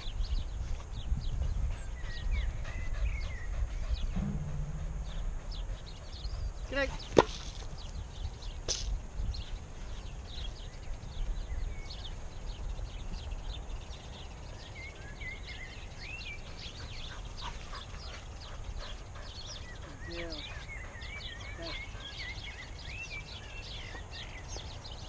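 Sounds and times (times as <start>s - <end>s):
wind rumbling on microphone: 0.0s - 20.9s
small birds chirping: 0.0s - 25.0s.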